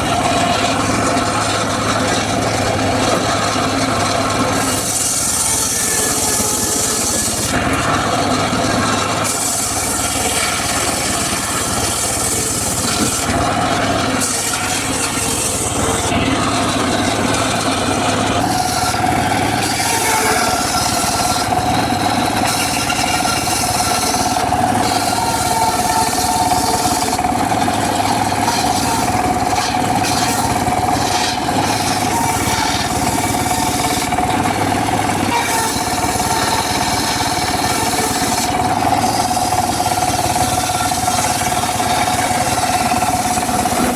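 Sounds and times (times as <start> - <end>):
circular saw cutting wood: 0.0 - 43.9
steady saw whine: 0.0 - 43.9.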